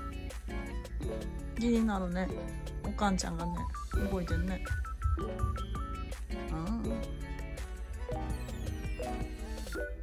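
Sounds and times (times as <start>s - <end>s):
melody over steady beat: 0.0s - 10.0s.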